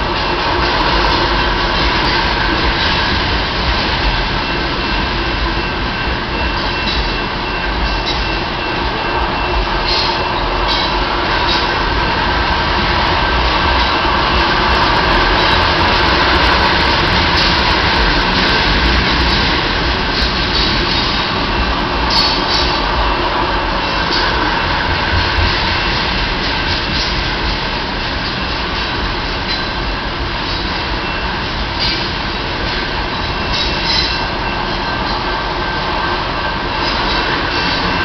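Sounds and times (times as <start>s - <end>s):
freight train rolling past: 0.0s - 38.0s
steel wheels rumbling on rails: 0.0s - 38.0s.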